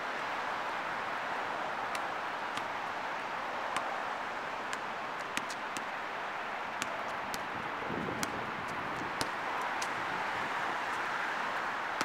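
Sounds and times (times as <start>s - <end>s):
distant city traffic: 0.0s - 12.0s.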